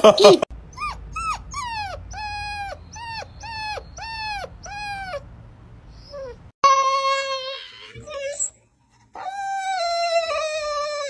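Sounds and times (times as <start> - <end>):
puppy howling cries: 0.7 - 5.2, 6.0 - 8.6, 9.2 - 11.0.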